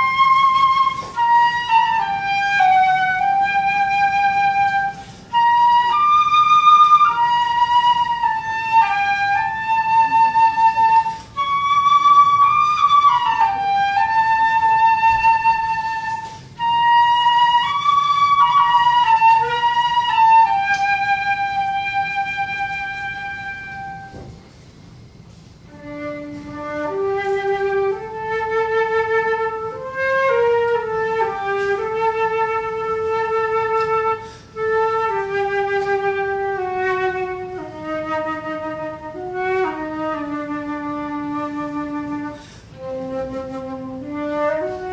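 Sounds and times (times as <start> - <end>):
solo flute melody: 0.0 - 44.9.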